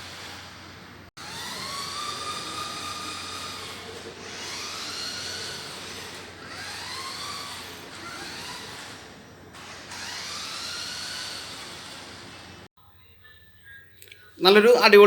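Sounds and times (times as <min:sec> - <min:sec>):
toy truck electric motor whining: 0:00.0 - 0:12.7.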